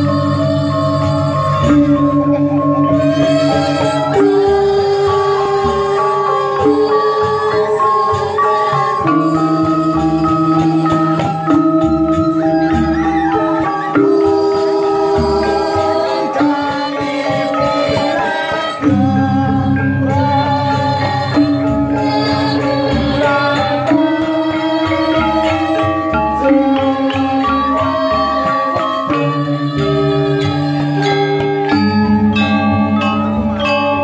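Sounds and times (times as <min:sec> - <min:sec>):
gamelan ensemble playing: 0:00.0 - 0:34.0.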